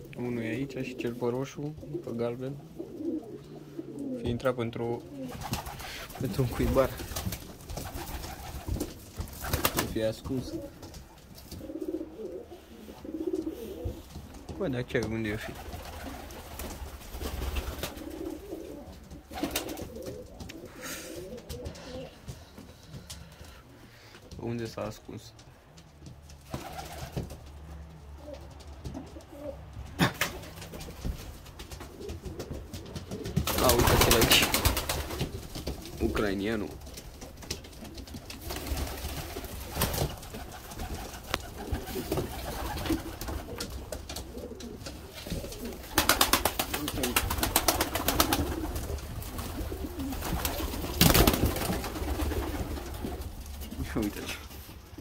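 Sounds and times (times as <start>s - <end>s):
pigeons cooing: 0.0s - 14.5s, 15.5s - 24.2s, 26.4s - 53.7s.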